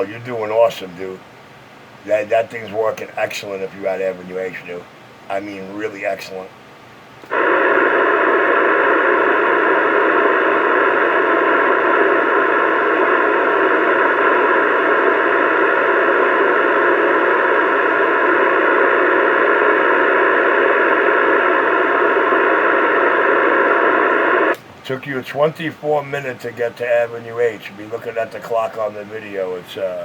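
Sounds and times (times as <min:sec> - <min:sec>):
radio static hiss: 0:00.0 - 0:01.3, 0:02.0 - 0:06.6, 0:07.2 - 0:30.0.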